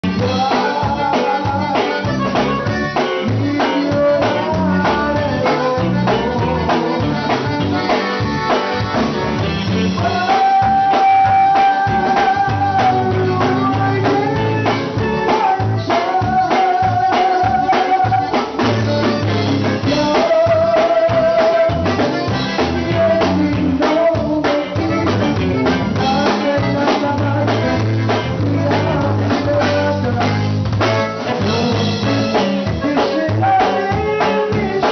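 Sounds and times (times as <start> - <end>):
band playing a song: 0.0 - 34.9
drum kit beat: 0.0 - 34.9.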